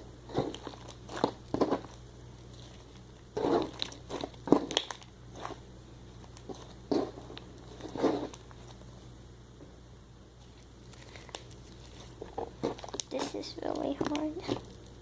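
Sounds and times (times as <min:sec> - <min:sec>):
slime squelching by hand: 0:00.3 - 0:08.8, 0:10.4 - 0:14.7.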